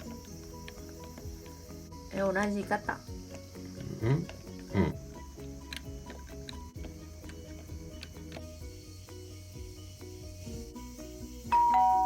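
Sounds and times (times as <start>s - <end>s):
background music with short notes: 0.0s - 12.0s.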